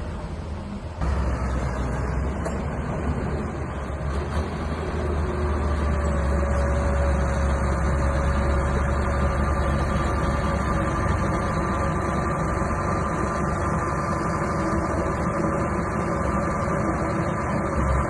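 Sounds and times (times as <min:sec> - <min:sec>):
bulldozer engine running: 0:00.0 - 0:18.0.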